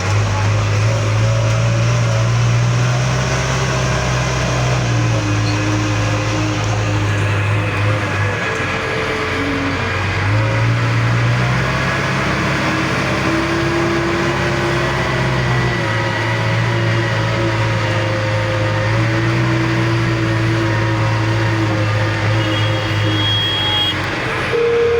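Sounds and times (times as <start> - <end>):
diesel engine droning: 0.0 - 24.9.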